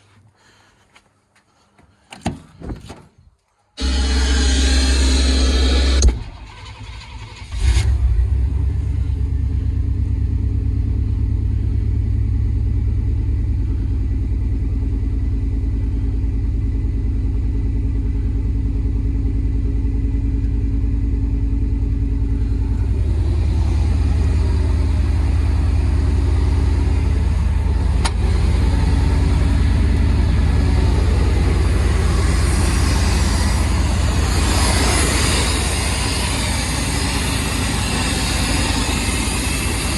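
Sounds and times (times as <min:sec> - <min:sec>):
truck engine idling: 0:03.8 - 0:39.9.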